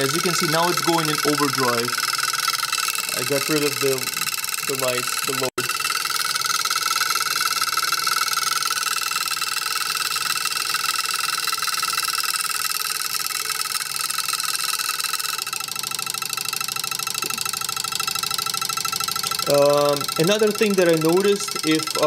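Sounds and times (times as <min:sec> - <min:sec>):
vibrating switch buzzing: 0:00.0 - 0:22.0.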